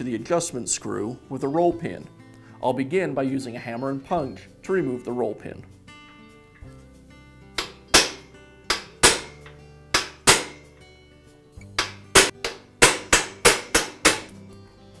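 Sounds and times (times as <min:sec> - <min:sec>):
light background music: 0:00.0 - 0:15.0.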